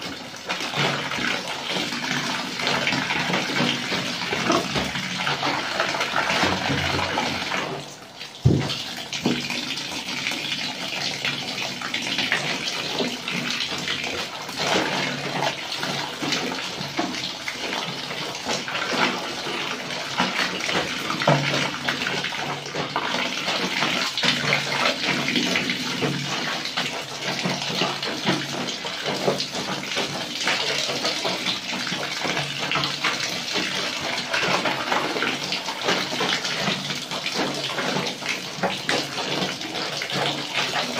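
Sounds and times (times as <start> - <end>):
splashing and sloshing water: 0.0 - 40.9
water running from shower hose: 0.0 - 40.9.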